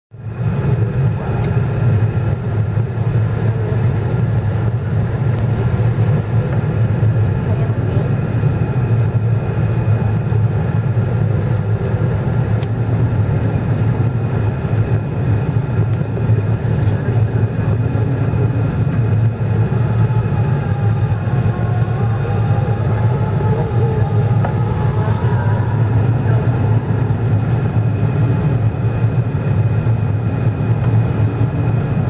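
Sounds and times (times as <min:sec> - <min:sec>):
airliner cabin engine drone: 0:00.1 - 0:32.0
faint steady whine: 0:00.2 - 0:32.0
low hum: 0:00.2 - 0:32.0.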